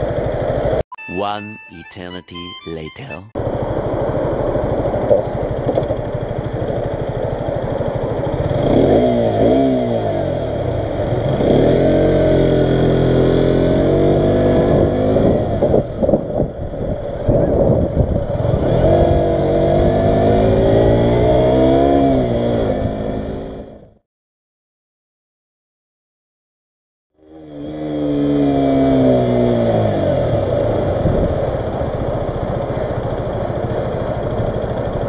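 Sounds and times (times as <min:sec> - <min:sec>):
motorcycle engine accelerating: 0:00.0 - 0:00.8, 0:03.4 - 0:24.0, 0:27.2 - 0:35.0.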